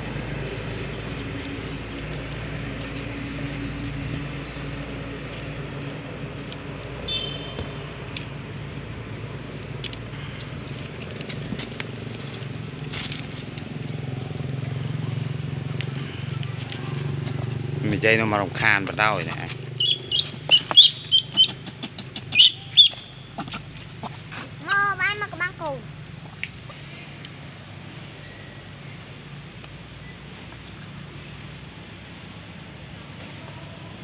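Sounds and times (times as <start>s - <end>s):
low engine-like drone: 0.0s - 34.0s
outdoor noise: 0.0s - 34.0s.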